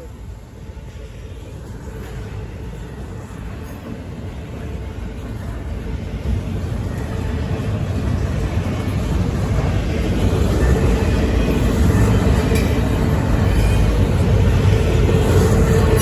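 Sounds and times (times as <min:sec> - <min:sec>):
freight train rushing past: 0:00.0 - 0:16.0.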